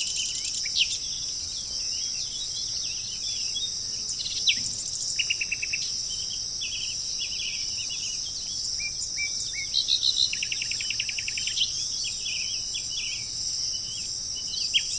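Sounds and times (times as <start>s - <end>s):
high-pitched insect buzz: 0.0s - 14.9s
songbirds chirping and trilling: 0.0s - 14.9s.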